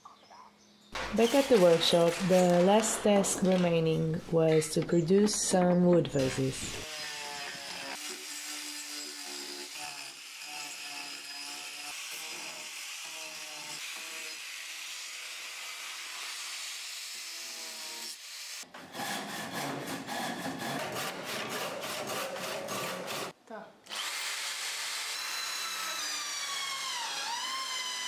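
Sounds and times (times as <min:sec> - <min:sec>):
handsaw cutting wood: 0:01.0 - 0:03.6, 0:06.2 - 0:28.0
angle grinder sanding wood: 0:01.0 - 0:04.5, 0:06.1 - 0:28.0.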